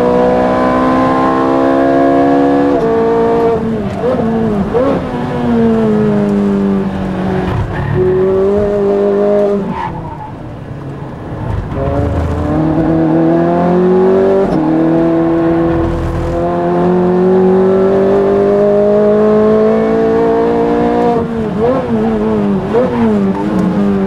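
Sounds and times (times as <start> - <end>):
race car engine: 0.0 - 24.0.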